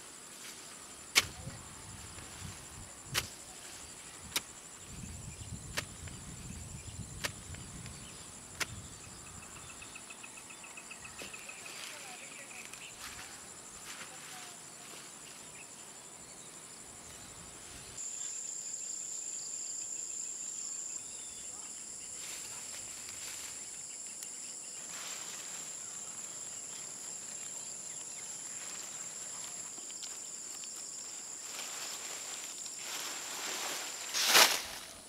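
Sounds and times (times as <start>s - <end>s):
soft rustling of plants: 0.0s - 9.2s, 11.0s - 18.4s, 21.1s - 35.0s.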